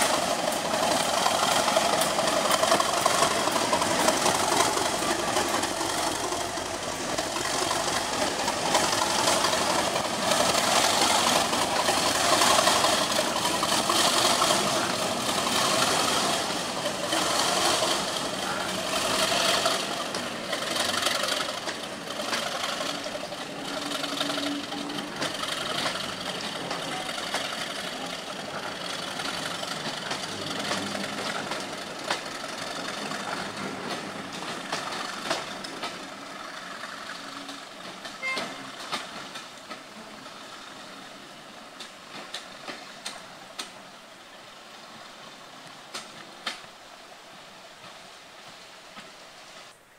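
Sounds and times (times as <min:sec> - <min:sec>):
diesel locomotive engine: 0:00.0 - 0:49.9
train coaches rolling past: 0:00.0 - 0:49.9.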